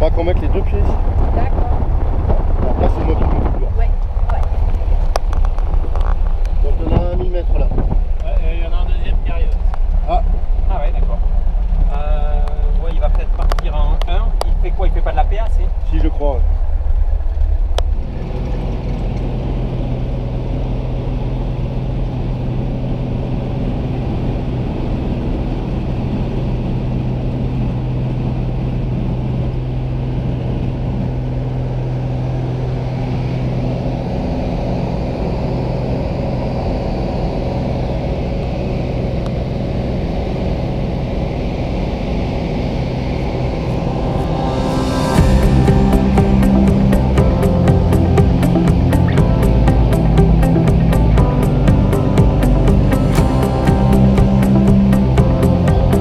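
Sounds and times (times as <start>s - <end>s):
light aircraft engine drone in cabin: 0.0s - 56.0s.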